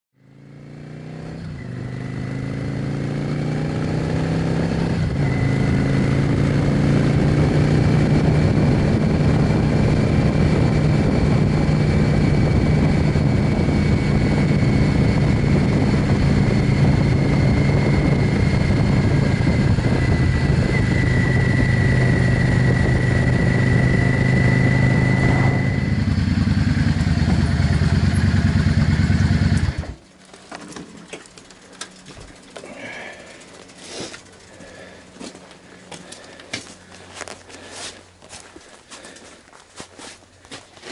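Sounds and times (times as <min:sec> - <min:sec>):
motorcycle engine running: 0:00.2 - 0:39.6.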